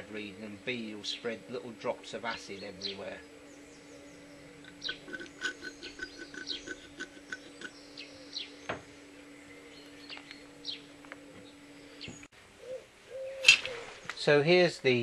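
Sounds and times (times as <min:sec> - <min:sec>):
birds singing: 0:00.0 - 0:14.4
low hum: 0:00.0 - 0:14.5.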